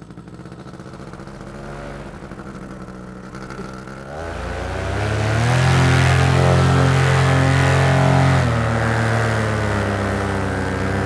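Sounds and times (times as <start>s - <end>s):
paramotor engine revving: 1.0s - 11.0s.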